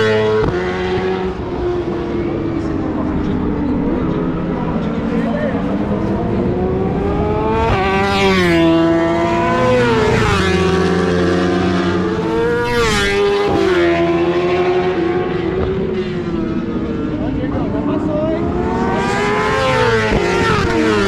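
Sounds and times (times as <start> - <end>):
engines running underneath: 0.0 - 21.0
superbikes passing at speed: 0.0 - 21.0.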